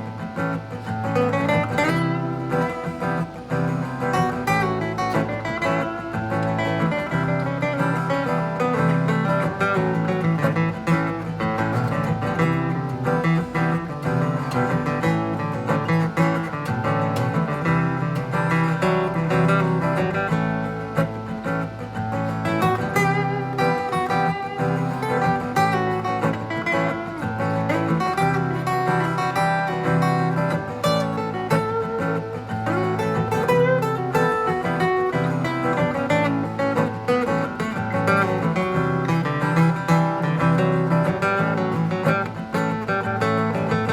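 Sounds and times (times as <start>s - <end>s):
strummed acoustic guitar: 0.0s - 43.9s.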